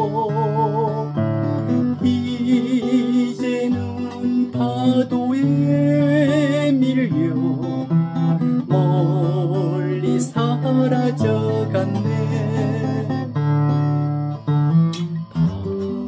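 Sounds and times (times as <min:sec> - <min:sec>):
acoustic guitar picked chords: 0:00.0 - 0:16.0.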